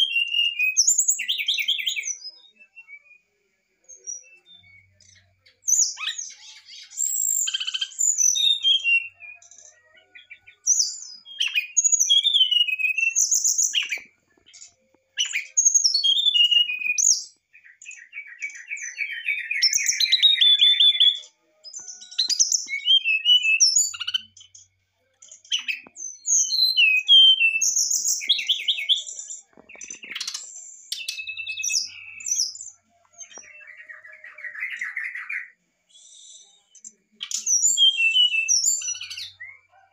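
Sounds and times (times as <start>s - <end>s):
bird singing fluty song: 0.0s - 39.9s.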